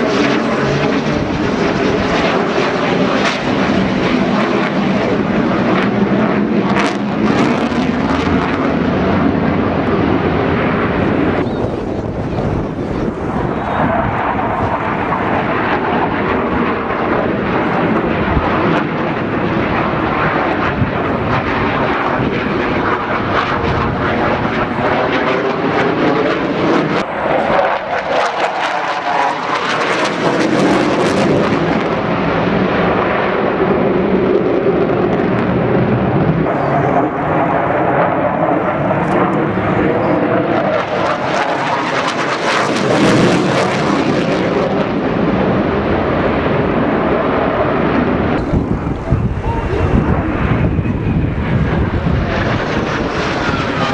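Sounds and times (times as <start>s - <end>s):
jet engine roar with crackle: 0.0s - 53.9s.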